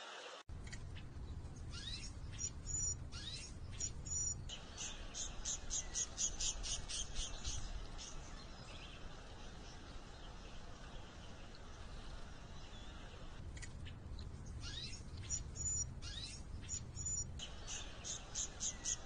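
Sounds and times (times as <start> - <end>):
low steady background rumble: 0.5 - 19.0
songbirds calling: 0.5 - 19.0.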